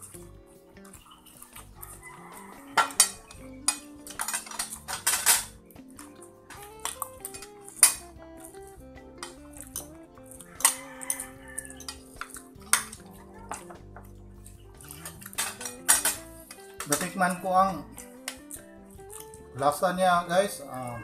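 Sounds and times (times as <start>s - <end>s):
background music: 0.0s - 21.0s
cutlery clinking on a plate: 0.9s - 8.6s, 9.2s - 14.1s, 14.8s - 19.3s.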